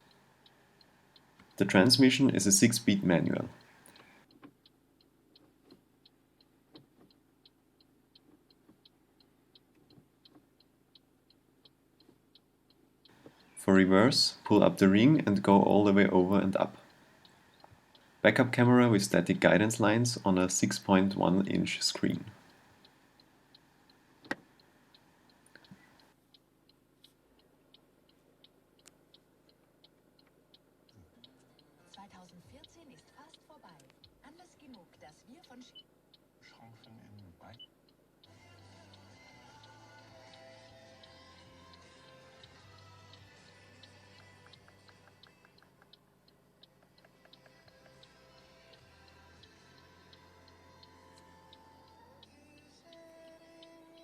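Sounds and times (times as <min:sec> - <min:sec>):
faint even ticking: 0:00.0 - 0:34.7, 0:35.4 - 0:54.0.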